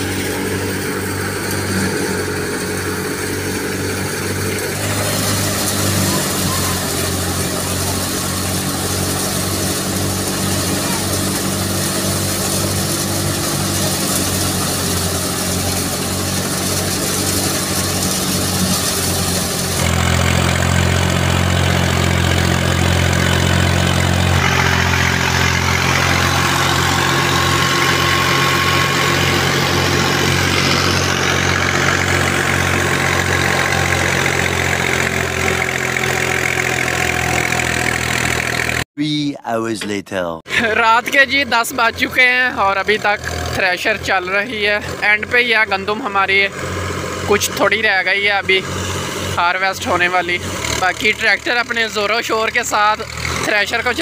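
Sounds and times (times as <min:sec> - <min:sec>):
thresher noise: 0:00.0 - 0:38.8, 0:40.5 - 0:54.0
tractor engine running: 0:00.0 - 0:38.9, 0:40.5 - 0:54.0.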